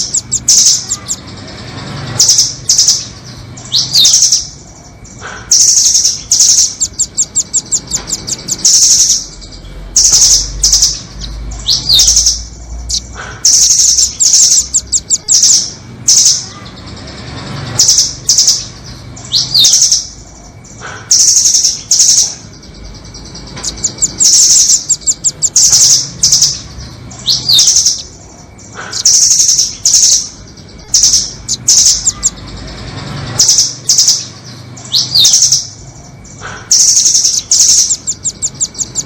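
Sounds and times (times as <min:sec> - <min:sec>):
nuthatch trilled chattering: 0:00.0 - 0:39.0.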